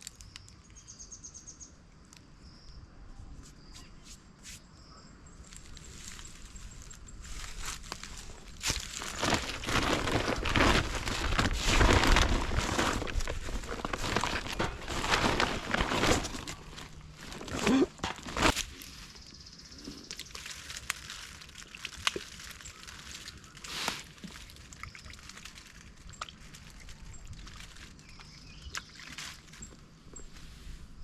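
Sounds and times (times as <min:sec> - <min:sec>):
close rustling and crunching: 0:05.4 - 0:31.0.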